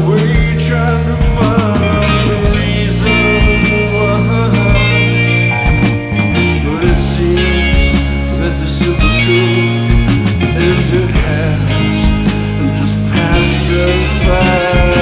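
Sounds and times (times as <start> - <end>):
bass notes: 0.0 - 15.0
drum and cymbal hits: 0.0 - 15.0
guitar: 0.0 - 15.0.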